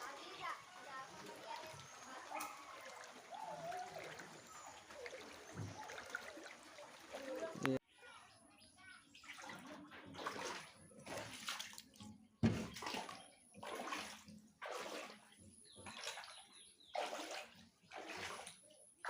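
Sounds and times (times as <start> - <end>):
floodwater splashing and sloshing: 0.0 - 7.8, 9.0 - 18.8.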